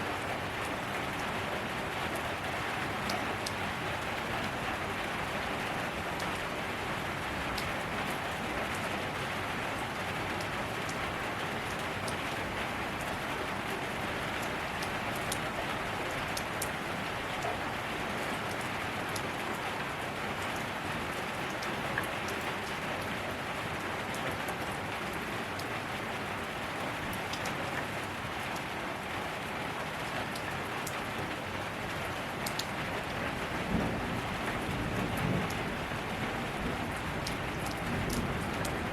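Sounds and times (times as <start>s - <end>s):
steady rain falling: 0.0s - 38.9s
raindrop ticks: 2.1s - 8.9s, 9.8s - 23.1s, 24.0s - 25.9s, 27.1s - 28.7s, 30.0s - 31.4s, 32.0s - 38.9s.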